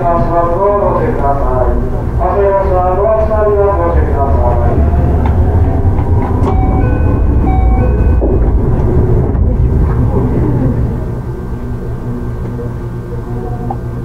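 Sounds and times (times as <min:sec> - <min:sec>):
train inverter whine: 0:00.0 - 0:14.0
train wheels rumbling on rails: 0:00.0 - 0:14.0.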